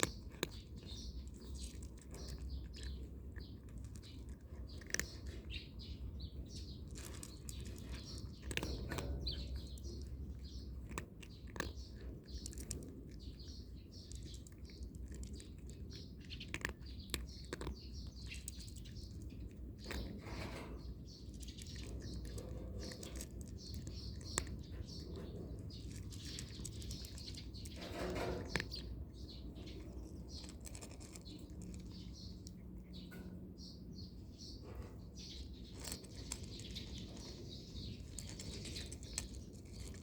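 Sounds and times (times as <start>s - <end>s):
cat chewing dry kibble: 0.0s - 40.0s
small birds chirping: 0.0s - 40.0s.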